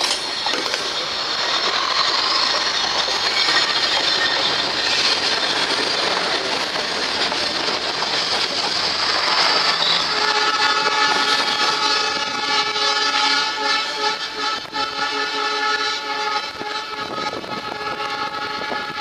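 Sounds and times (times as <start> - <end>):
high wheel squeal: 0.0 - 19.0
train wheels rolling on rails: 0.0 - 19.0.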